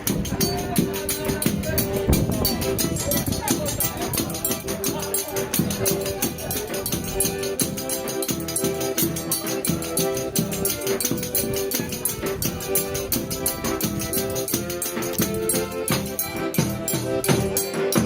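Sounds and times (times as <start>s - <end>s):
fast high percussion rhythm: 0.0s - 18.0s
held melody notes: 0.0s - 18.0s
low drum beats: 0.0s - 18.0s.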